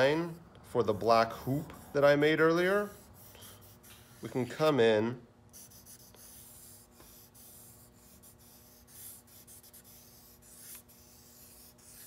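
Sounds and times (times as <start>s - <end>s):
charcoal rubbing on paper: 1.3s - 4.6s, 5.5s - 12.0s.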